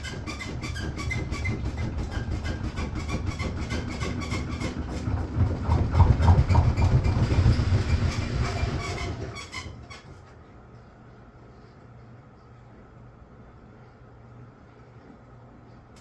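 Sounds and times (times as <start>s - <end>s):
washing machine rumble: 0.0s - 16.0s.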